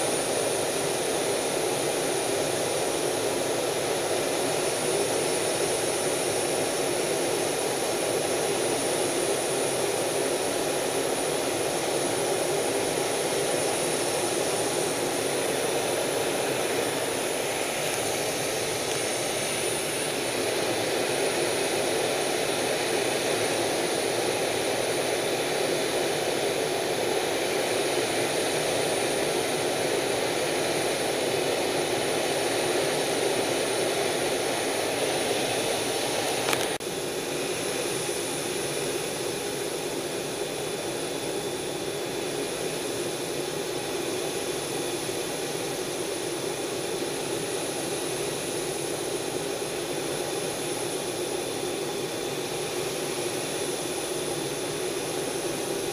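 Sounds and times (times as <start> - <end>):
faint high whine: 0.0 - 55.9
jet engine and airflow noise: 0.0 - 55.9.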